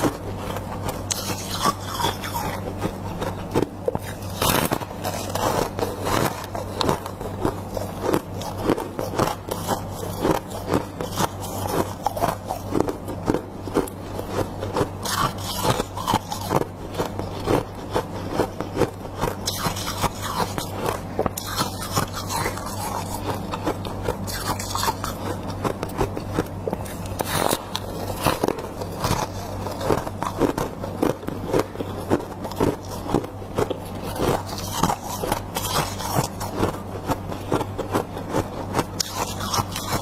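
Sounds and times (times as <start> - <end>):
chewing crisp frost crunches: 0.0 - 40.0
steady low hum: 0.0 - 40.0.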